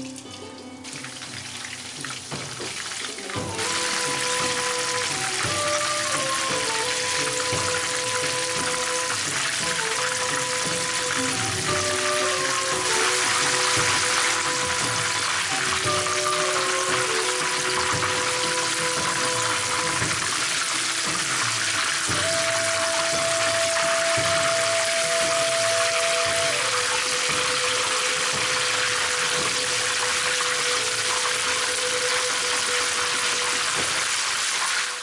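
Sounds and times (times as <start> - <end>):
oil sizzling and crackling: 0.0 - 35.0.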